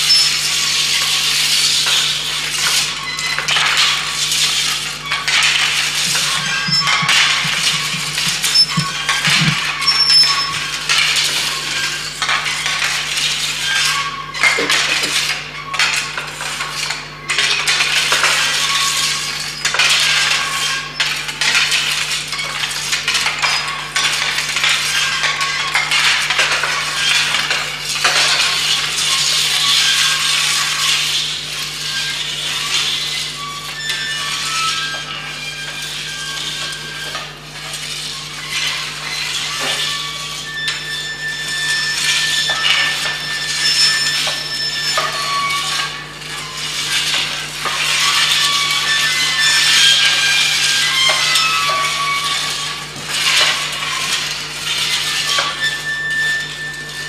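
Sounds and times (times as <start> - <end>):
low electrical hum: 0.0 - 56.8.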